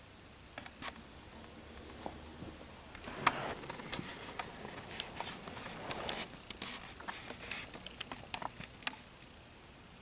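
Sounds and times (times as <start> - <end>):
faint handling clicks and rustles: 0.6 - 9.3.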